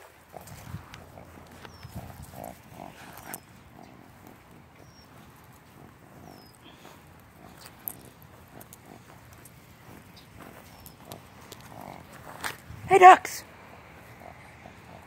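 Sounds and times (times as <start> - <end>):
footsteps on grass: 0.0 - 14.1
birds chirping: 0.0 - 15.0.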